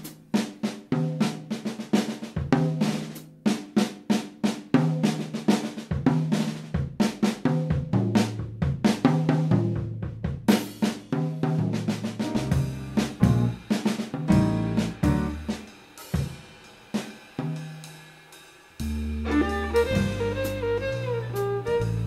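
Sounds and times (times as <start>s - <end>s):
jazz drum solo: 0.0s - 22.0s.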